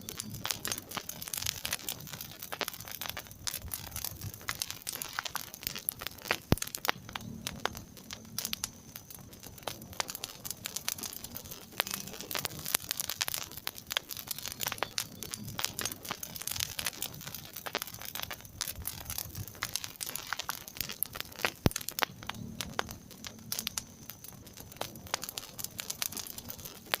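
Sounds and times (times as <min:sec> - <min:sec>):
loud fire pops: 0:00.0 - 0:27.0
wood fire crackling: 0:00.0 - 0:27.0.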